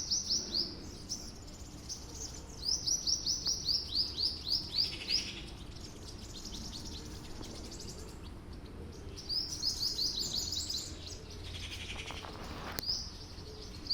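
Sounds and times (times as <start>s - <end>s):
small songbirds chirping: 0.0s - 13.9s.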